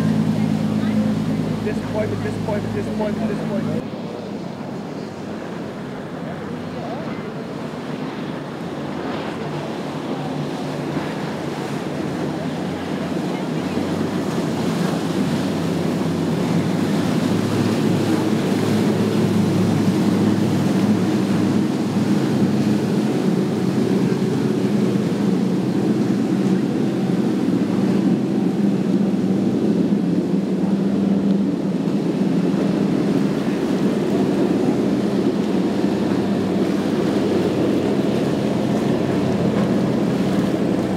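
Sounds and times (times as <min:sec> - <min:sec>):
outboard boat engines running: 0:00.0 - 0:40.9
water rushing off hull: 0:00.0 - 0:40.9.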